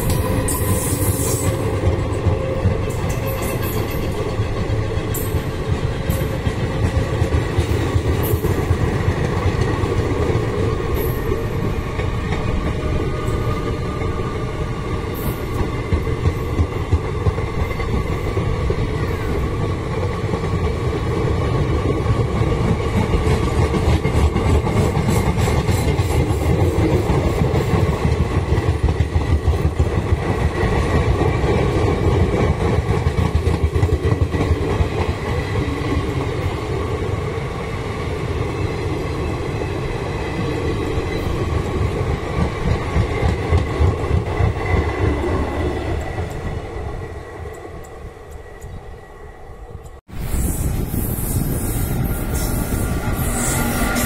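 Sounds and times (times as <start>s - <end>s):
train coaches rumbling past: 0.0s - 54.0s.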